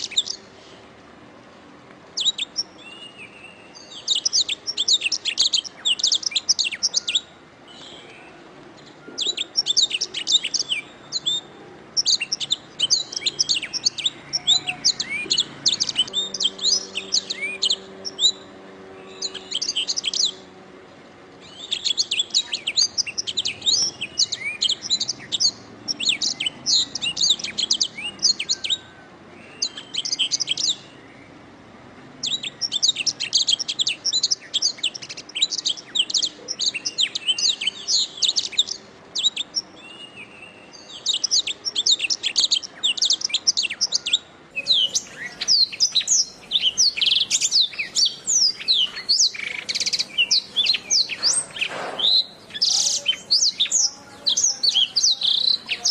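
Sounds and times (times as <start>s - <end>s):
canary singing: 0.0s - 0.7s, 2.1s - 31.4s, 32.2s - 55.9s.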